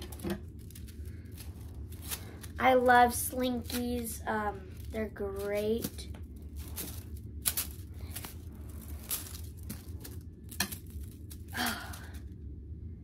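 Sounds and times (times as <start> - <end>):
plastic slinky coils clicking: 0.0 - 12.0.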